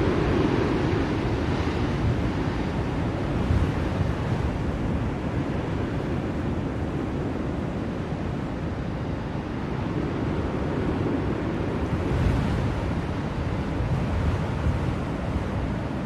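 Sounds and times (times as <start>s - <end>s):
blizzard wind rushing: 0.0s - 16.0s.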